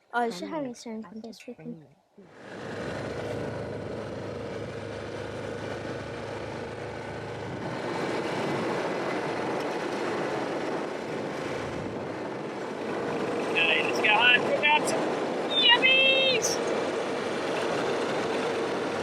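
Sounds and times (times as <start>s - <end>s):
car driving road noise: 2.2s - 19.0s.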